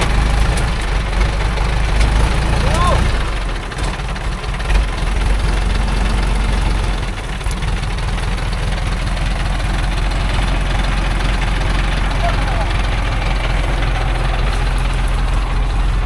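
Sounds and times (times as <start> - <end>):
truck engine throbbing: 0.0 - 16.0.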